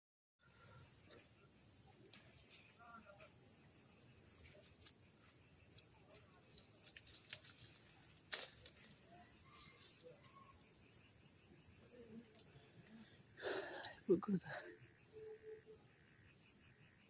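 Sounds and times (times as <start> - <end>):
crickets chirping: 0.4 - 17.0.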